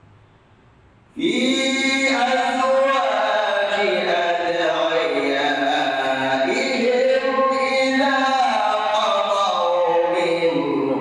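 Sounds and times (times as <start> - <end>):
man reciting melodically: 1.1 - 11.0.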